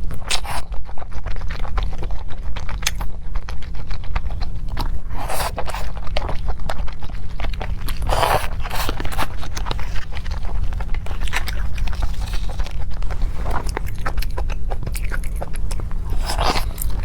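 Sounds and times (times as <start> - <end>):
food being chewed and crunched: 0.0 - 17.0
steady low hum: 0.0 - 17.0.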